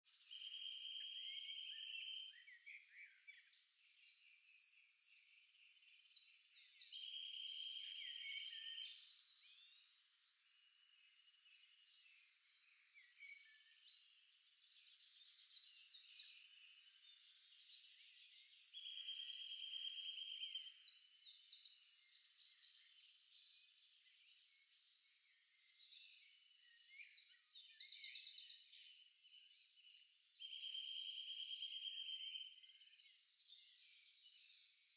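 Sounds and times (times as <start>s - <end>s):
songbirds singing: 0.0s - 34.9s.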